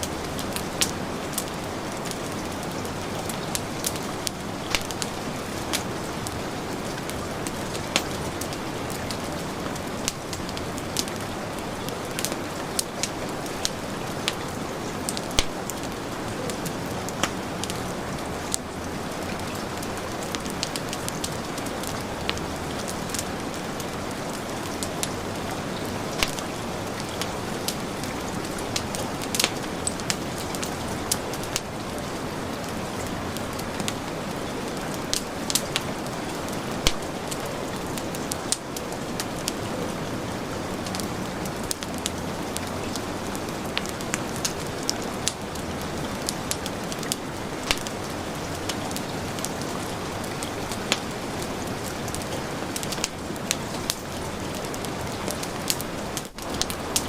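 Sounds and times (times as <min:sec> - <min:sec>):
heavy rain: 0:00.0 - 0:57.0
wood fire crackling: 0:00.0 - 0:57.0.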